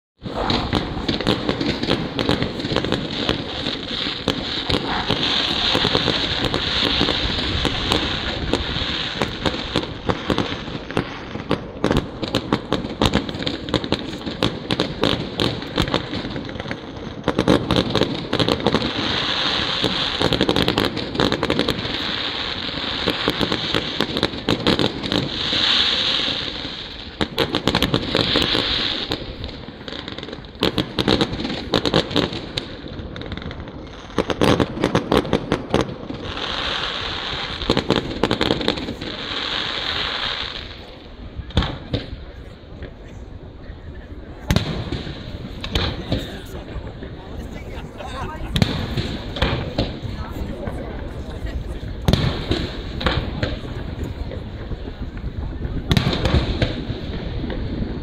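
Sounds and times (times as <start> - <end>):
fireworks bangs and crackles: 0.2 - 58.0.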